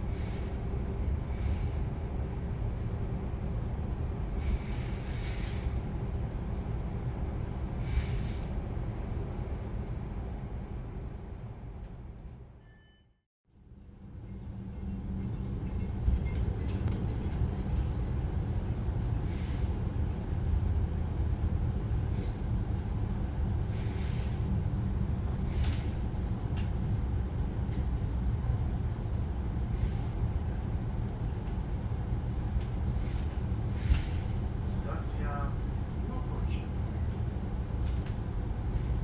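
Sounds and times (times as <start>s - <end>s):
train rumbling: 0.0s - 12.6s, 13.7s - 39.0s.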